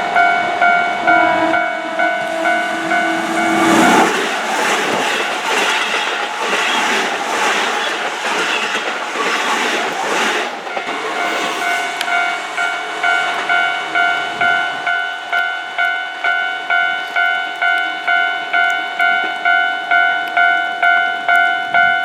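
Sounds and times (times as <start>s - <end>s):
level-crossing alarm bell ringing: 0.0s - 9.0s, 10.6s - 22.0s
electric train wheel and rail noise: 0.0s - 22.0s.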